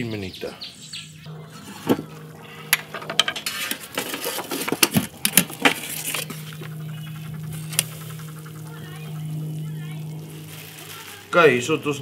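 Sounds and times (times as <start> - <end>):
steady low hum: 0.6 - 12.0.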